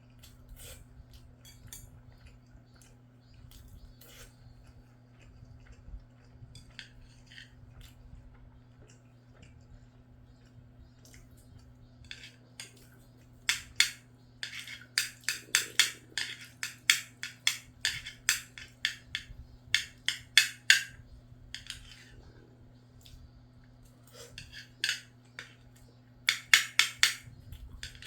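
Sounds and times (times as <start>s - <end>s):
wet eating clicks and scrapes: 0.0s - 21.0s, 21.6s - 22.4s, 23.8s - 28.0s.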